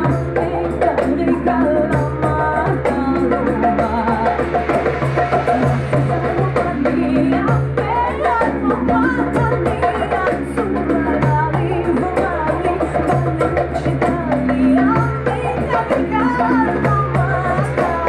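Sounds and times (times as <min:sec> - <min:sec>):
hand drums: 0:00.0 - 0:18.0
man and woman singing: 0:00.0 - 0:18.0.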